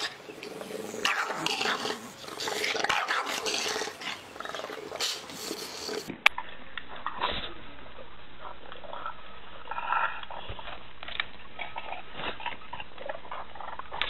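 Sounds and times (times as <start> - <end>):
dogs growling: 0.0 - 6.2, 8.4 - 14.0.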